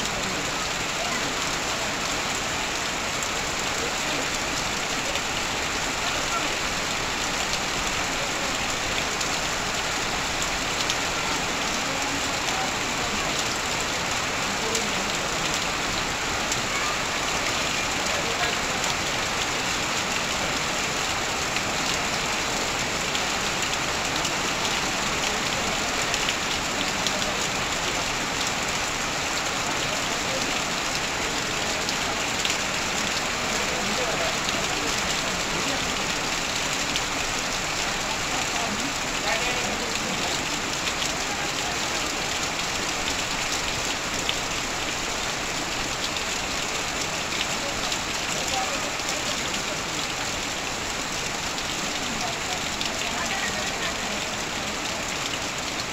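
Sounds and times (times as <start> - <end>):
heavy rain on tin roof: 0.0 - 55.9
runoff pouring off roof: 0.0 - 55.9.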